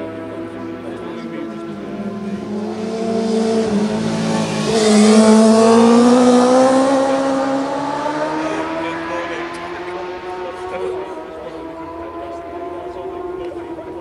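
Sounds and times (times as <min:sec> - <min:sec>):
racing motorcycle passing by: 0:00.0 - 0:14.0.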